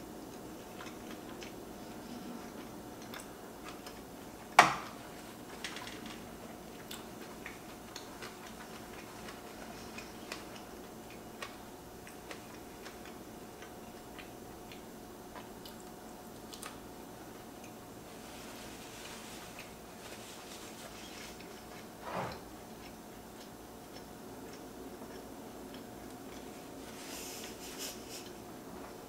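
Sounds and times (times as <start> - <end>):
crunchy eating and mouth clicks: 0.0 - 29.0.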